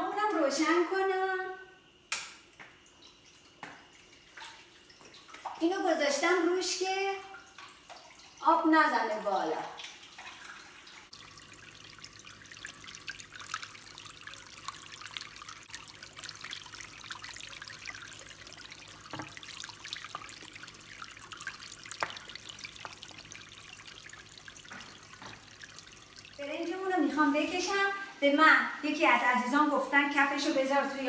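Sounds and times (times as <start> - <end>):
water trickling and dripping: 2.1 - 31.0.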